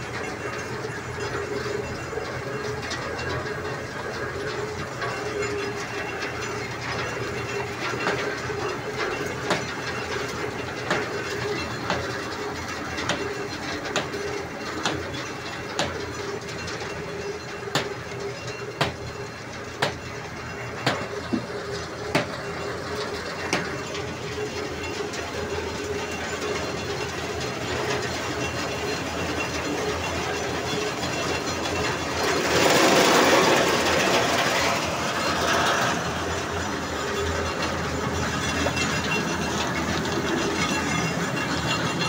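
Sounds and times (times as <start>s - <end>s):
machinery drone with hum: 0.0s - 42.0s.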